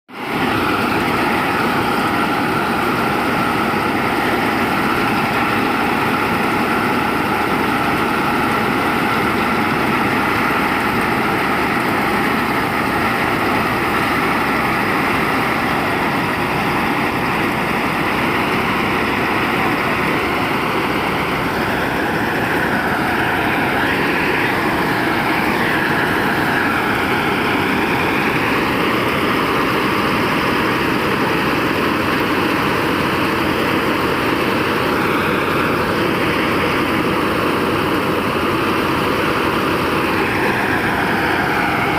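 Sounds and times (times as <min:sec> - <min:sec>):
combine harvester engine drone: 0:00.1 - 0:41.9
machinery whine: 0:00.2 - 0:41.9.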